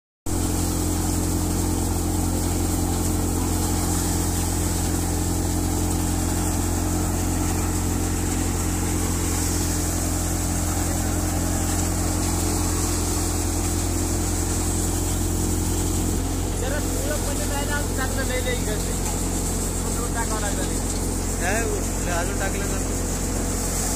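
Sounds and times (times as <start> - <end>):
thresher machine noise: 0.3 - 23.9
tractor engine hum: 0.3 - 23.9.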